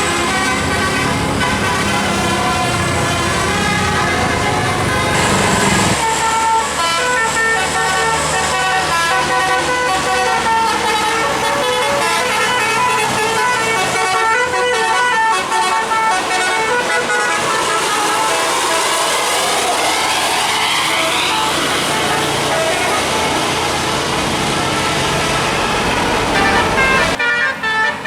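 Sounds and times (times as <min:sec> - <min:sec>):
bus engine running: 0:00.0 - 0:28.0
musical bus horn tune: 0:00.0 - 0:28.0.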